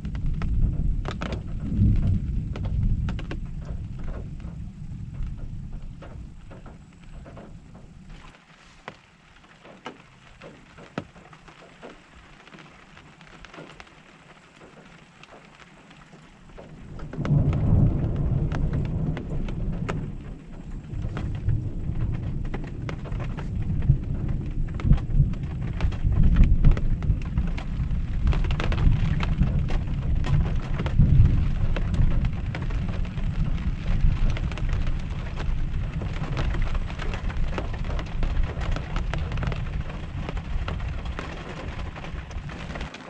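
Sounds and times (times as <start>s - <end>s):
thunder rumbling: 0.0s - 8.4s, 9.3s - 43.0s
raindrops tapping on a roof: 0.0s - 43.0s.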